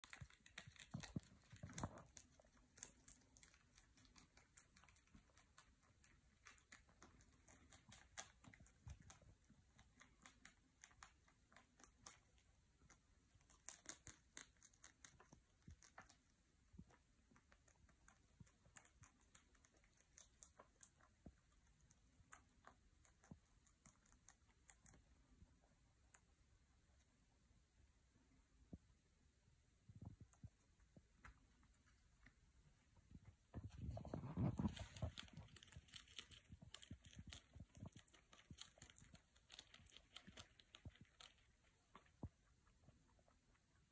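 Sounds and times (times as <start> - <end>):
rabbit chewing twigs: 0.0 - 27.3, 30.2 - 43.9.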